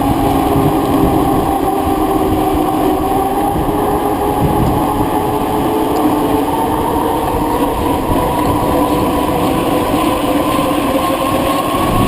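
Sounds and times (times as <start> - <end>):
faint hum rising in pitch: 0.0 - 12.0
road noise: 0.0 - 12.0
rushing wind: 0.0 - 12.0.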